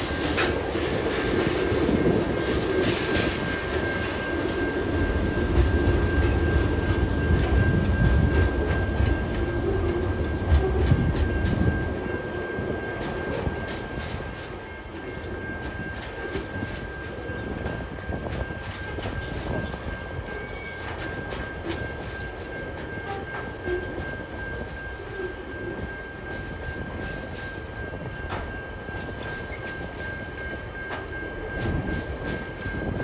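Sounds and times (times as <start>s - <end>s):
freight train rumble: 0.0s - 33.0s
steady high-pitched tone: 0.0s - 33.0s
train wheels clicking over rail joints: 0.0s - 33.0s.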